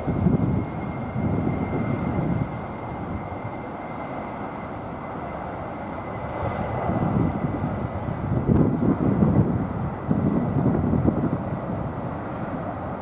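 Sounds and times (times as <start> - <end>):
jet engines on takeoff run: 0.0 - 13.0.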